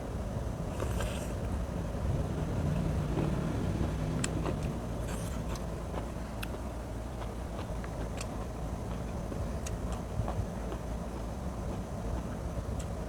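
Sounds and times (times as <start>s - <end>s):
steady low rumble: 0.0s - 13.0s
chewing crunchy food: 0.7s - 1.6s, 2.7s - 13.0s.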